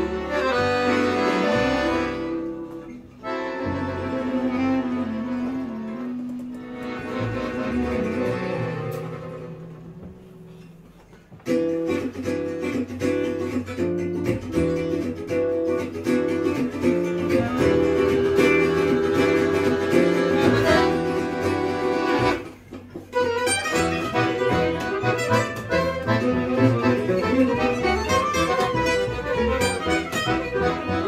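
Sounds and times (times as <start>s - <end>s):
small acoustic band playing: 0.0s - 31.0s.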